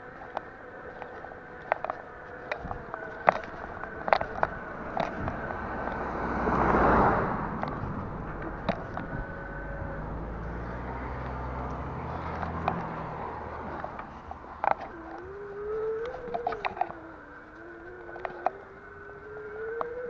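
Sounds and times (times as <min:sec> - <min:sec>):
bicycle rolling with wind noise: 0:00.0 - 0:20.0
bike rattling over bumps: 0:00.0 - 0:20.0
low hum: 0:00.0 - 0:20.0.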